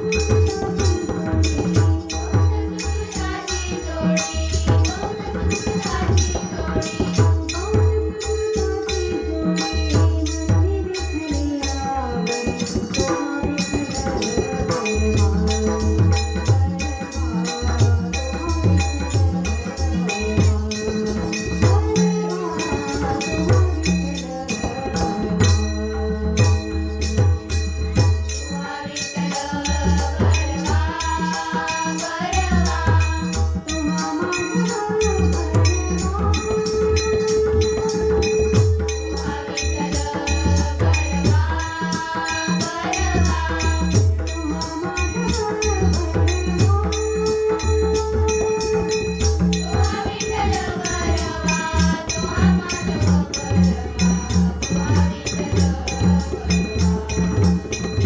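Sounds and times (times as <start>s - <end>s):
devotional group singing: 0.0s - 25.6s, 28.3s - 58.0s
small hand cymbals jingling: 0.0s - 58.0s.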